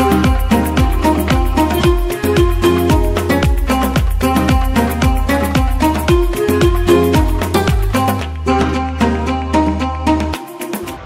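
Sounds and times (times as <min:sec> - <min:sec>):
sustained bass: 0:00.0 - 0:11.0.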